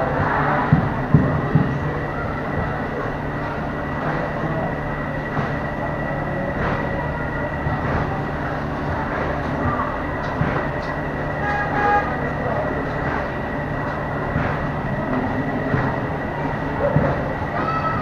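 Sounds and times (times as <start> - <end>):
motor rumble with high whine: 0.0 - 18.0.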